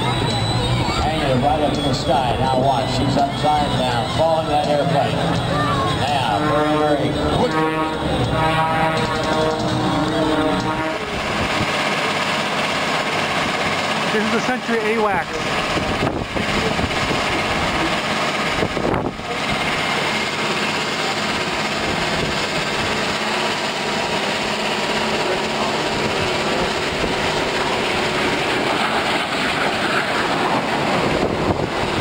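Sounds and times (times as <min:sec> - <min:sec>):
aircraft engine noise: 0:00.0 - 0:32.0.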